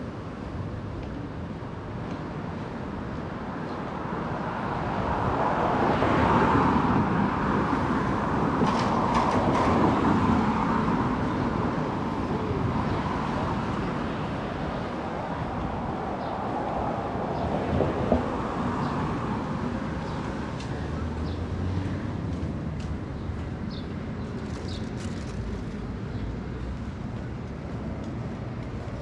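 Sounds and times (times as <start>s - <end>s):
city street traffic: 0.0s - 29.0s.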